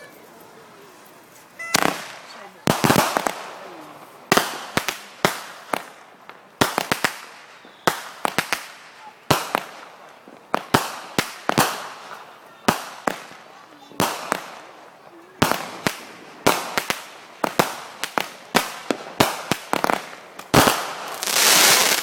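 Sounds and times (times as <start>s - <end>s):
fireworks banging: 1.5s - 22.0s.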